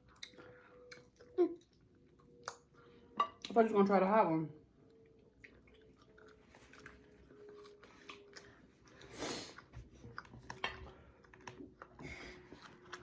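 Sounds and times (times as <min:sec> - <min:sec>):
chewing and mouth sounds: 0:00.0 - 0:02.8, 0:04.8 - 0:13.0.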